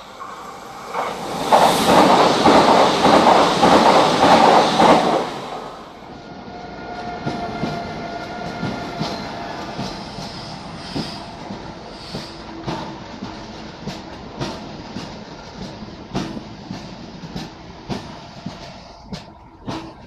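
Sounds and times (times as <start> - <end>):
train wheels clattering: 0.0 - 6.3, 6.9 - 20.0
train rumble with whine: 0.0 - 20.0.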